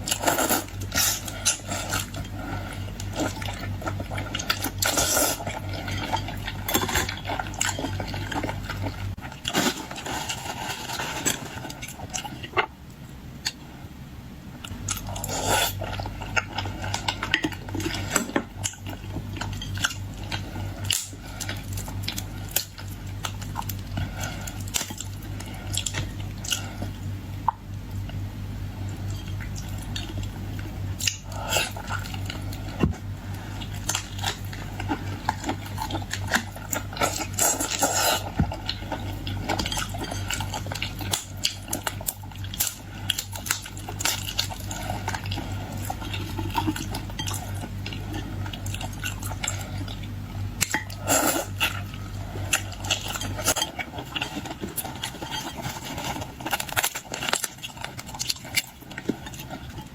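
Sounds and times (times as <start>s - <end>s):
wet chewing: 0.0s - 12.7s, 14.6s - 59.9s
steady low hum: 0.0s - 59.9s.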